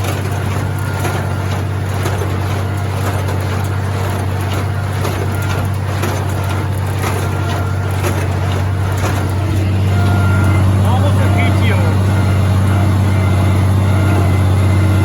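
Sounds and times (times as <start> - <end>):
hay baler running: 0.0 - 15.0
tractor engine under load: 0.0 - 15.0.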